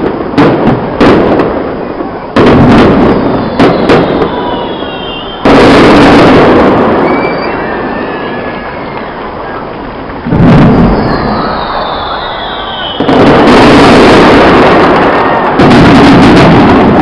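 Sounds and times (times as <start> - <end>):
falling firework whistles: 0.0 - 17.0
fireworks bursting: 0.0 - 17.0.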